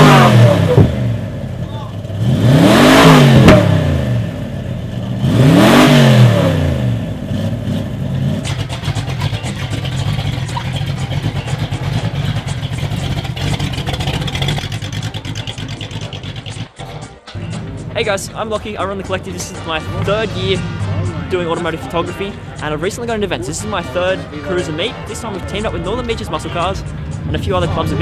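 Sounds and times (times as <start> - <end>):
cars driving past: 0.0 - 16.7, 17.4 - 28.0
car engine running with pulsing note: 0.0 - 28.0.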